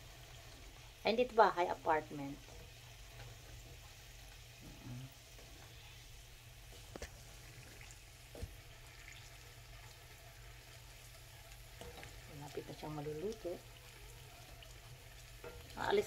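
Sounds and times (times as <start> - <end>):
faint sizzle of frying: 0.0 - 16.0.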